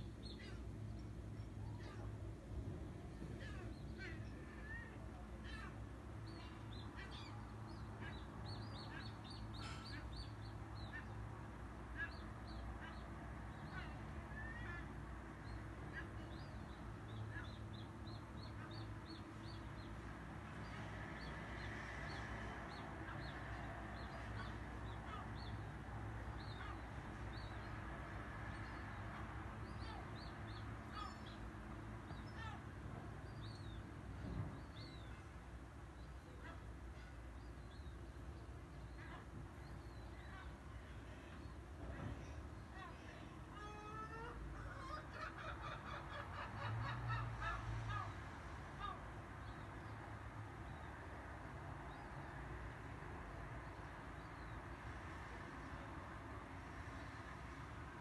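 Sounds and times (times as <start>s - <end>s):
gulls and birds calling: 0.0s - 2.2s, 2.9s - 50.9s.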